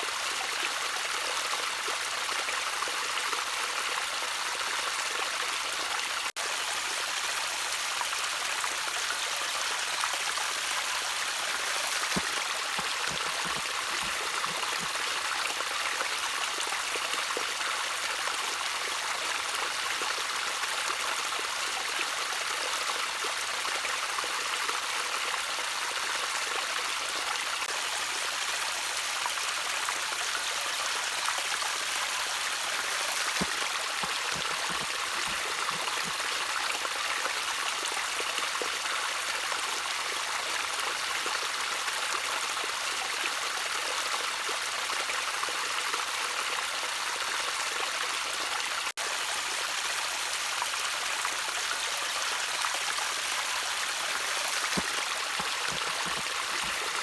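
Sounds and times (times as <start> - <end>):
trickling stream water: 0.0 - 57.0.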